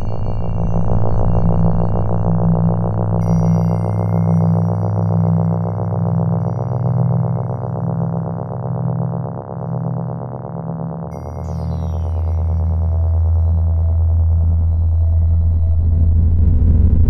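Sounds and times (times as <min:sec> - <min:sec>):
deep low synth note: 0:00.0 - 0:17.0
synthesizer drone: 0:00.0 - 0:17.0.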